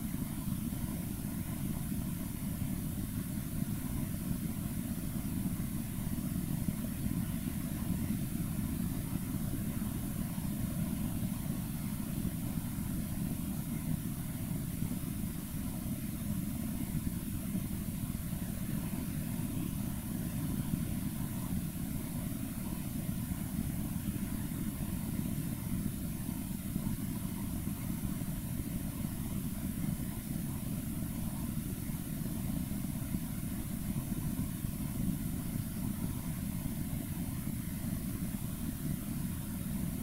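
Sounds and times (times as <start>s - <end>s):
low room rumble: 0.0s - 40.0s.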